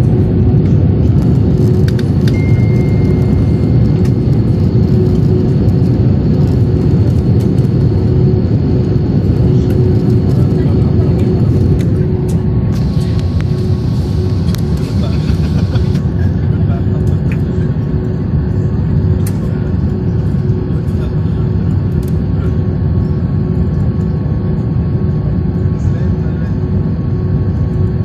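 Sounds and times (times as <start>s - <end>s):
airliner engines rumbling: 0.0s - 28.0s.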